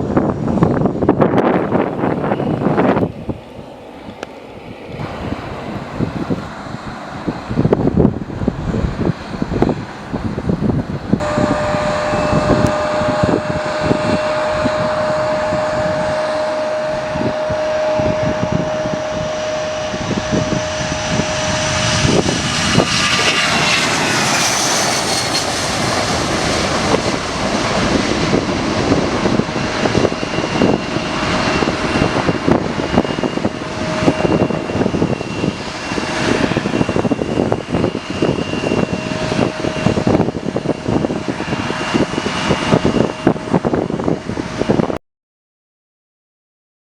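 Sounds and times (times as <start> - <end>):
jet engines whining and roaring: 0.0 - 45.0.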